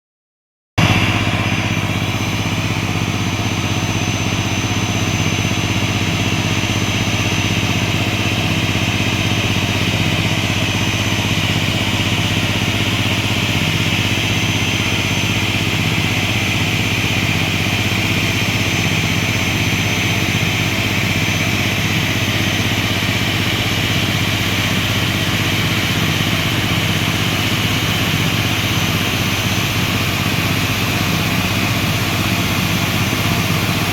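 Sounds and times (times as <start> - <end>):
machinery engine idling with hiss: 0.8 - 33.9.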